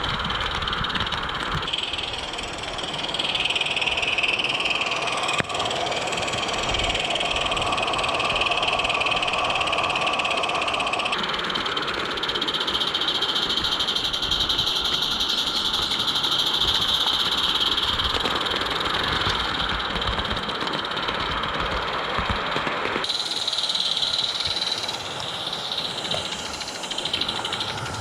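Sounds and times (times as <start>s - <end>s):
wheels rattling on track: 0.0s - 28.0s
steam locomotive hissing: 1.6s - 21.0s, 23.0s - 28.0s.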